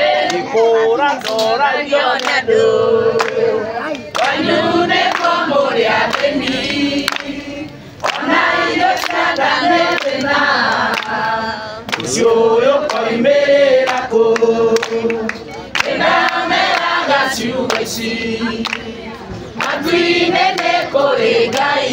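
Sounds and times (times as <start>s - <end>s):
group of people singing: 0.0s - 21.9s
hand-clapping in time: 0.2s - 0.5s, 1.1s - 2.4s, 3.1s - 13.2s, 13.8s - 21.9s.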